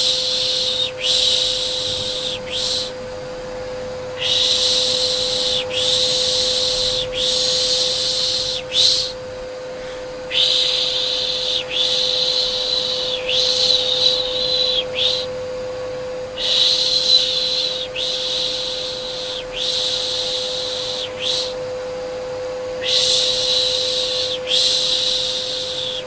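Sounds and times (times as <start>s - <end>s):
vacuum cleaner motor hum: 0.0s - 26.0s.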